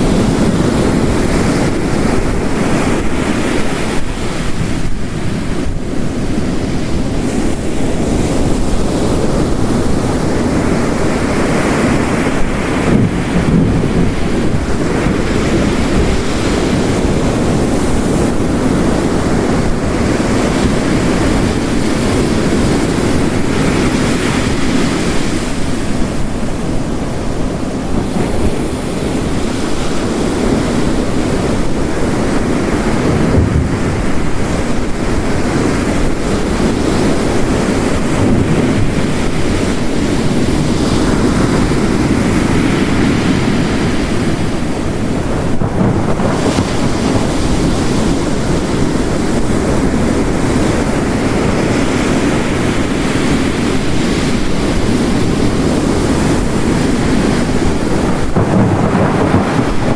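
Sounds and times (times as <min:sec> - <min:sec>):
heavy rain: 0:00.0 - 0:59.9
ocean waves crashing on shore: 0:00.0 - 0:59.9.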